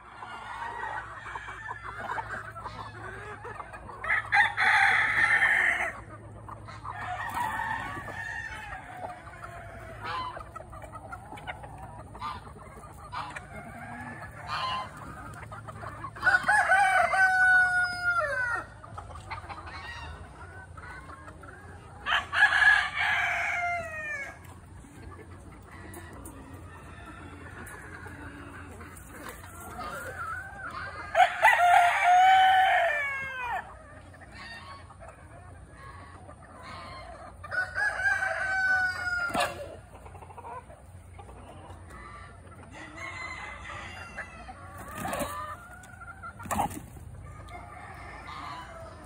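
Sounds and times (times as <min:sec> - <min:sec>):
roosters crowing: 0:00.0 - 0:21.1, 0:21.7 - 0:24.7, 0:25.6 - 0:34.9, 0:35.8 - 0:39.9, 0:41.9 - 0:49.0
hens clucking: 0:00.0 - 0:49.0.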